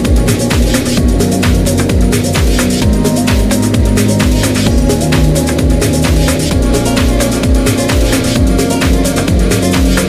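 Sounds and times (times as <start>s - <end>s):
kick-drum beat: 0.0s - 10.0s.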